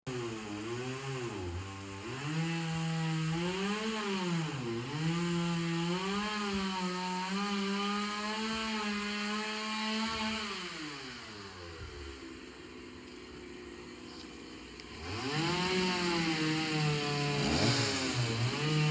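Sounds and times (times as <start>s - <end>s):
chainsaw engine revving: 0.1s - 12.8s, 13.6s - 18.9s.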